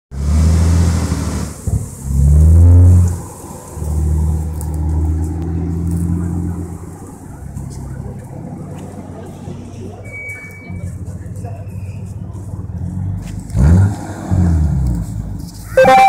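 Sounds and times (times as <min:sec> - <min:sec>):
car engine revving: 0:00.1 - 0:10.1, 0:10.7 - 0:16.0.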